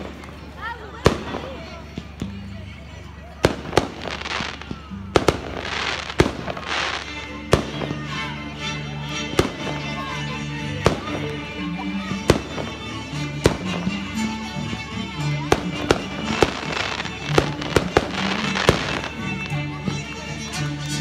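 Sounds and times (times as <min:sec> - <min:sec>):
music playing: 0:03.2 - 0:21.0.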